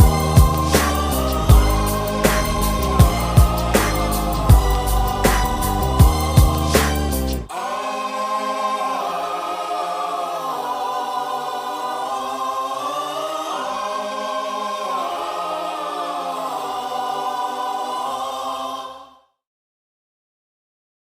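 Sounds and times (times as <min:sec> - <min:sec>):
choir singing held chords: 0:00.0 - 0:19.3.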